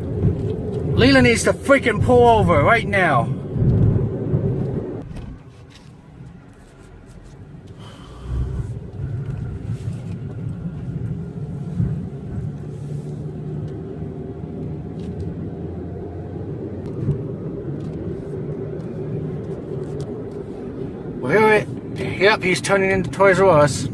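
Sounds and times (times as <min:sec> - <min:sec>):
car engine and road noise: 0:00.0 - 0:23.9.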